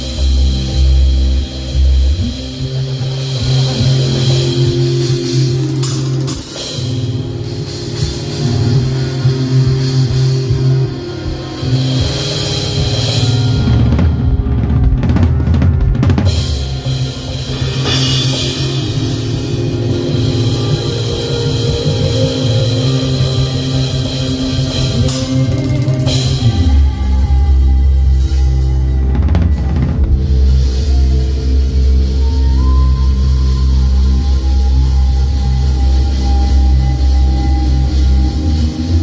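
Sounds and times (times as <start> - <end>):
drum kit played live: 0.0 - 39.0
held low note: 0.0 - 39.0.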